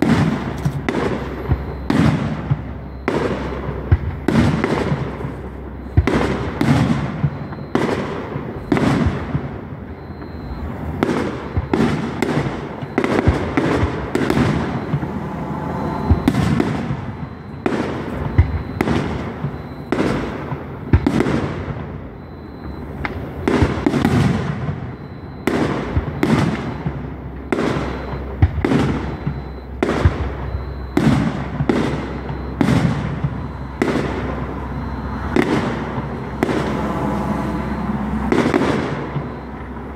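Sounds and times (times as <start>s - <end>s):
fireworks shells bursting: 0.0s - 39.9s.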